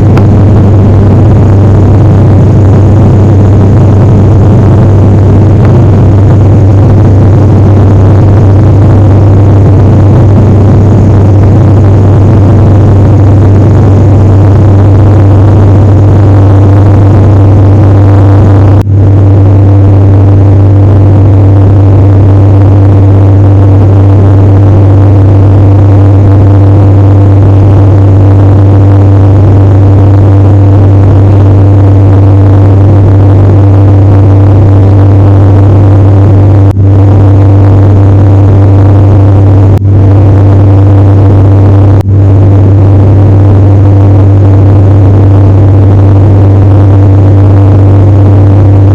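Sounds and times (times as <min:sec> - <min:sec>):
airliner engine drone in cabin: 0:00.0 - 0:48.9.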